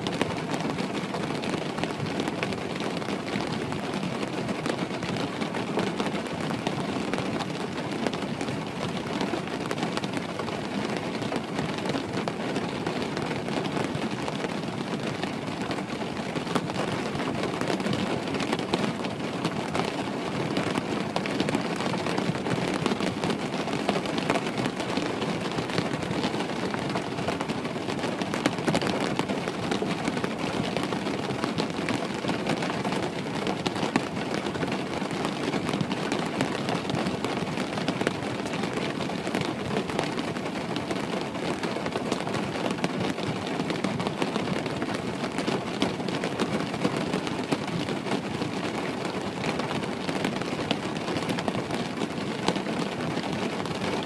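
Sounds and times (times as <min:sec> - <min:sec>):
rain hitting window: 0:00.0 - 0:54.0.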